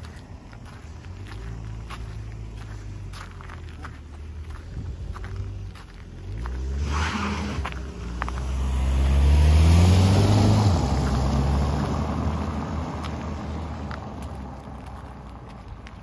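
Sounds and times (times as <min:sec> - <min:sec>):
car engine passing: 0:00.0 - 0:15.9
tyres rumbling on cobblestones: 0:00.0 - 0:16.0.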